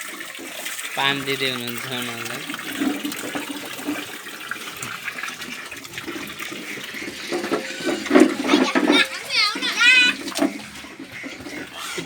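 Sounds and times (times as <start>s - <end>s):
water pouring and splashing: 0.0s - 12.0s.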